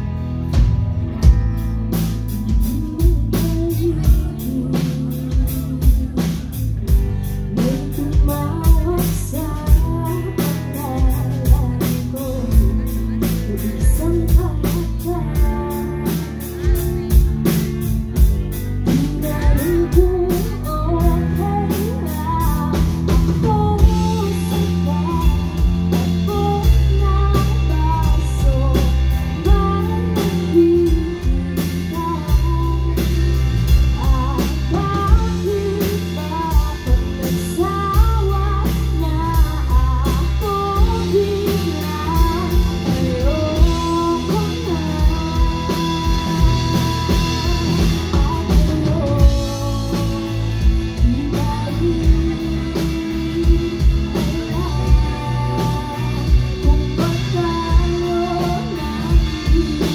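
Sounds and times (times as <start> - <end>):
bass and electric guitar: 0.0 - 59.9
drum kit beat: 0.0 - 59.9
person singing: 2.1 - 59.9.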